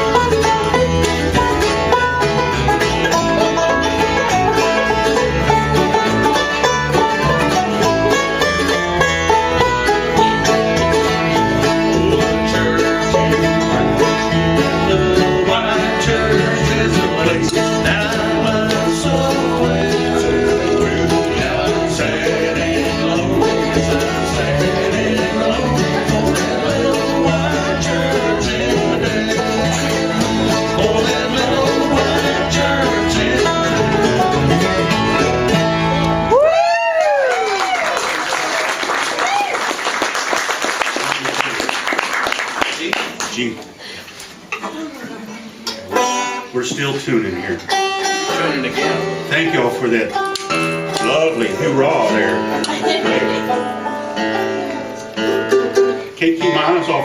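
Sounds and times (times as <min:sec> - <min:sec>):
banjo: 0:00.0 - 0:36.6, 0:44.4 - 0:57.0
upright bass: 0:00.0 - 0:38.4, 0:44.7 - 0:57.0
mandolin: 0:00.0 - 0:42.4, 0:43.3 - 0:57.0
guitar: 0:00.0 - 0:57.0.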